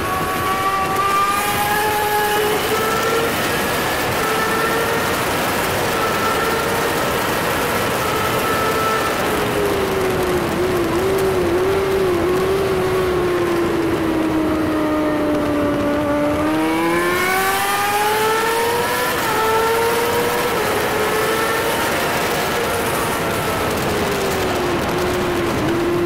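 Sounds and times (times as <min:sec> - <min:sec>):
motorcycle engine at speed: 0:00.0 - 0:26.0
wind rush: 0:00.0 - 0:26.0.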